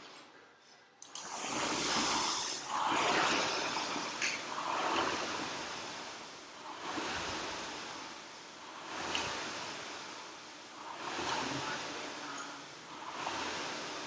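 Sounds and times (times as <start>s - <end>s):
rowing machine fan whooshing: 0.0s - 14.0s.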